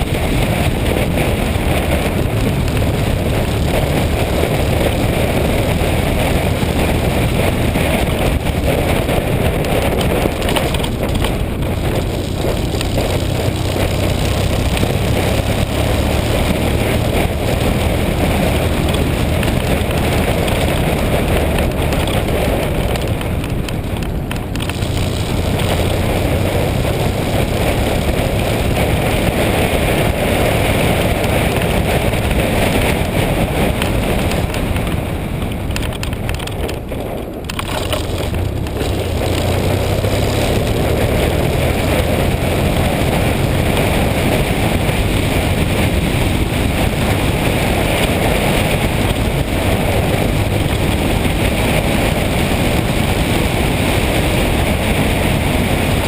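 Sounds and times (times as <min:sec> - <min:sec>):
motorcycle engine hum: 0:00.0 - 0:56.0
wind rushing over microphone: 0:00.0 - 0:56.0.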